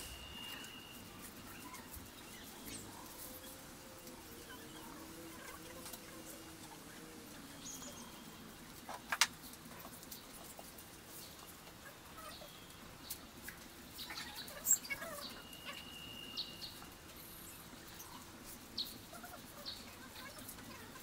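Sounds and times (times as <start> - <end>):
palm leaves rustling and crackling: 0.0 - 21.0.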